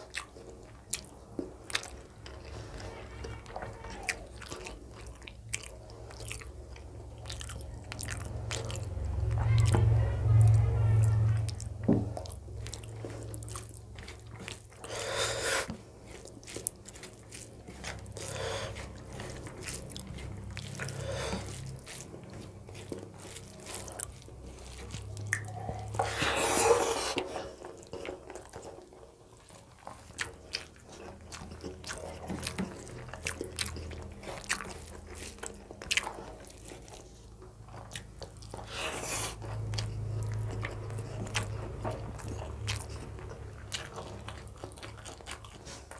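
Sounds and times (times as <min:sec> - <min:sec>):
low steady hum: 0:00.0 - 0:45.9
person chewing food: 0:00.0 - 0:45.9.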